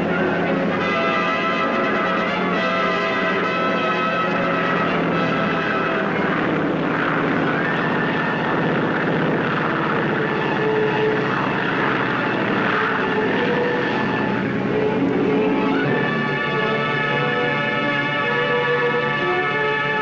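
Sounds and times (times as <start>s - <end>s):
piston engines and propellers droning: 0.0s - 20.0s.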